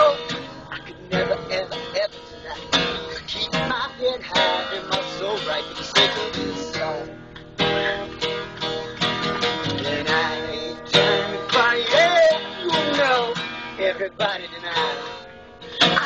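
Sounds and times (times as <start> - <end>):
acoustic blues guitar: 0.0 - 16.0.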